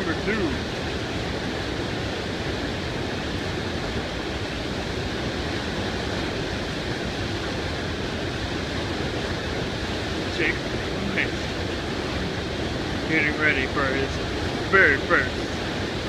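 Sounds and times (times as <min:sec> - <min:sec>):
whitewater rapid rushing: 0:00.0 - 0:16.0.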